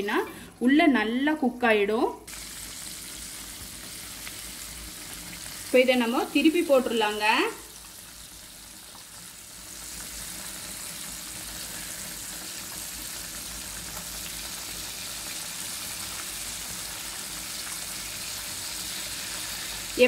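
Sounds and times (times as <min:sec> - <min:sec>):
chicken deep-frying in oil: 0:02.2 - 0:20.0.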